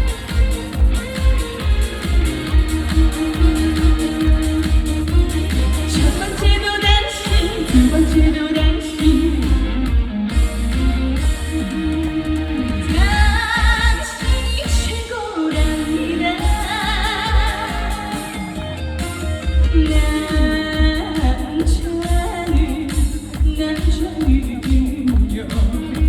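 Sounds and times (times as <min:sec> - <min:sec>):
woman singing: 0:00.0 - 0:10.1, 0:11.5 - 0:26.0
amplified music with heavy bass beat: 0:00.0 - 0:26.0.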